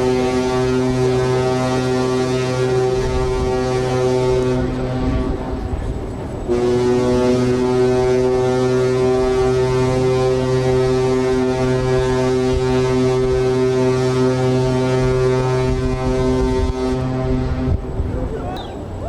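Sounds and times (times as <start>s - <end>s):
deep ship whistle horn blasts: 0.0s - 18.4s.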